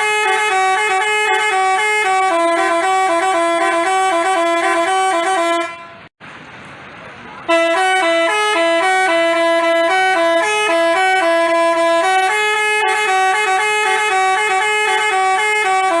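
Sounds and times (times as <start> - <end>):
multi-note bus horn tune: 0.0 - 6.1, 7.5 - 16.0.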